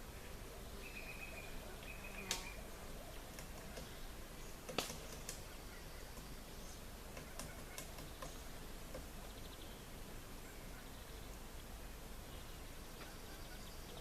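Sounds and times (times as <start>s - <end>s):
quiet outdoor background noise: 0.0s - 14.0s.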